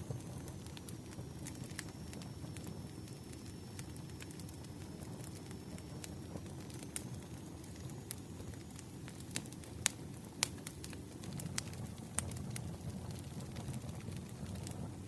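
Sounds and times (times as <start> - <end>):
firewood crackling and popping: 0.0 - 15.0
low rumble of fire: 0.0 - 15.0.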